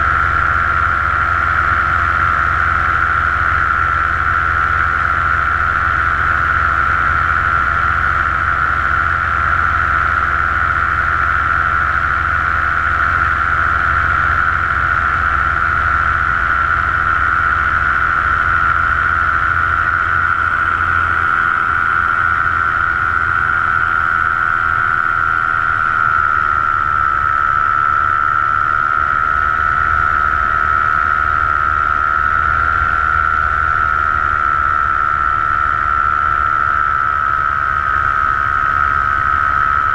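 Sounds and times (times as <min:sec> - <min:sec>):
paramotor engine drone: 0:00.0 - 0:39.9.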